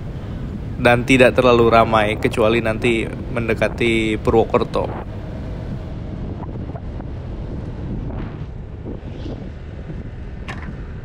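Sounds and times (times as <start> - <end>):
engine and road rumble: 0.0 - 11.0
wind buffeting microphone: 0.0 - 11.0.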